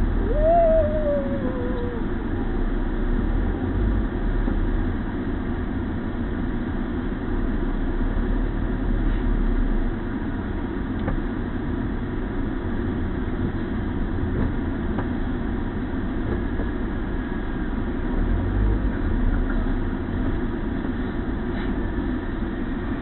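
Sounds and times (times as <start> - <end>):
car engine rumble from inside: 0.0 - 23.0.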